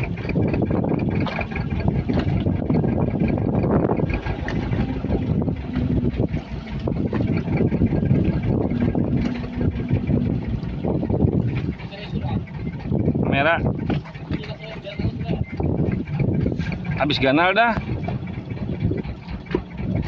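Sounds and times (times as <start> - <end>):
motorboat engine running: 0.0 - 20.0
wind buffeting microphone: 0.0 - 20.0.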